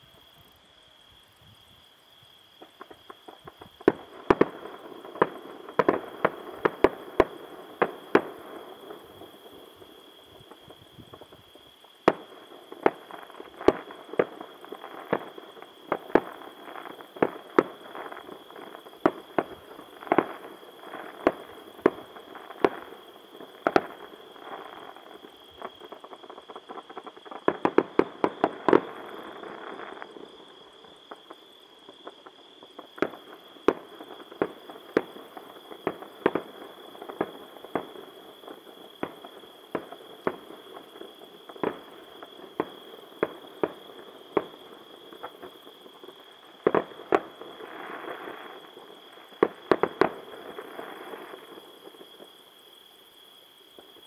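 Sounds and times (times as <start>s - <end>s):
fireworks crackling: 2.6s - 52.7s
fireworks bursting with sharp bangs: 2.6s - 54.0s.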